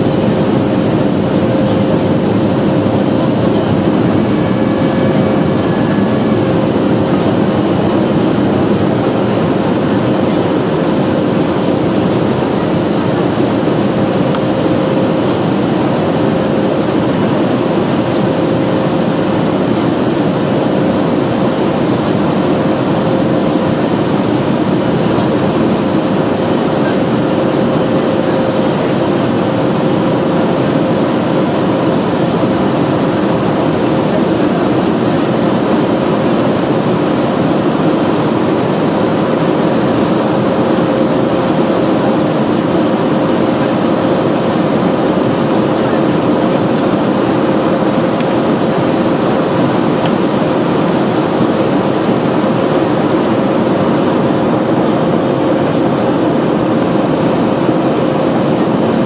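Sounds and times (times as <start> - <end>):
jet engine cabin noise: 0.0 - 59.0.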